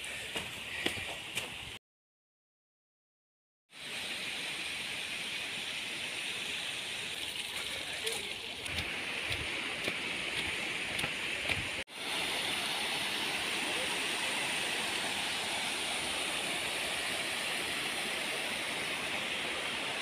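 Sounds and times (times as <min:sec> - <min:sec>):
waterfall rushing over rock: 0:03.8 - 0:20.0.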